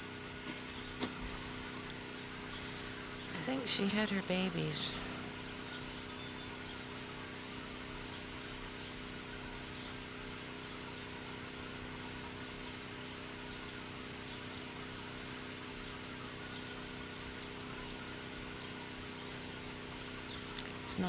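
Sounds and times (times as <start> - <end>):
motor-driven machine droning: 0.0 - 21.0.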